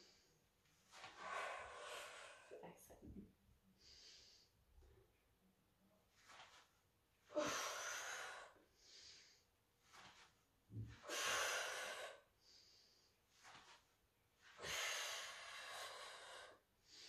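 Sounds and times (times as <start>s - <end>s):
woman breathing: 0.0s - 2.9s, 3.6s - 4.9s, 7.2s - 17.0s.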